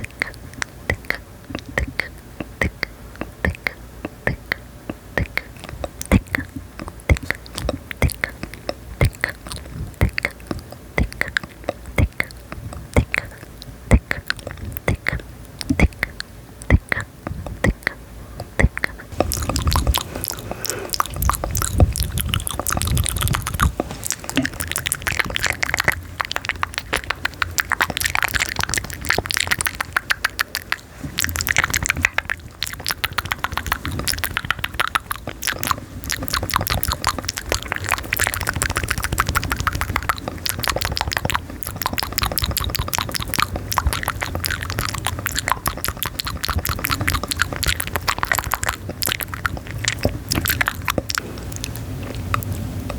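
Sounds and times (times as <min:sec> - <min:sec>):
soft low rumble: 0:00.0 - 0:52.9.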